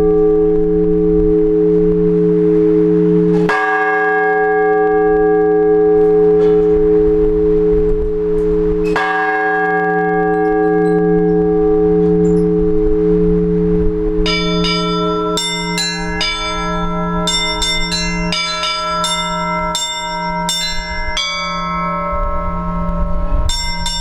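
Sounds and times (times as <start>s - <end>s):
large church bell ringing: 0.0s - 24.0s.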